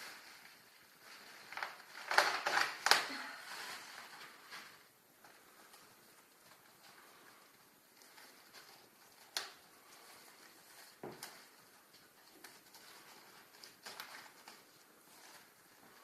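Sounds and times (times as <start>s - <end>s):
book and packaging handling: 0.0s - 16.0s.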